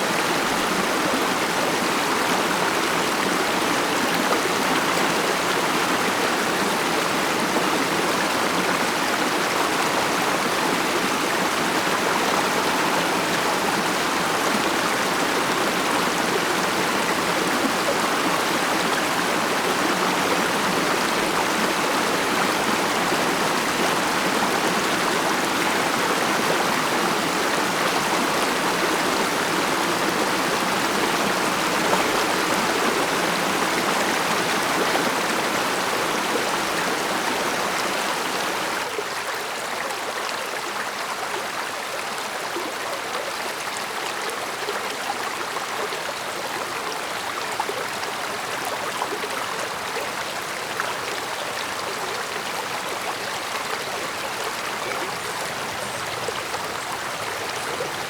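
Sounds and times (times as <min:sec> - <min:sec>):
stream burbling over rocks: 0:00.0 - 0:58.0.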